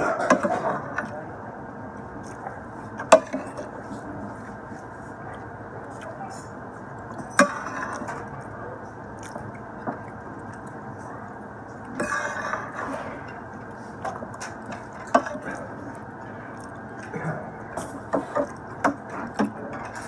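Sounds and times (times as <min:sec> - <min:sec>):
chewing: 0:02.0 - 0:20.0.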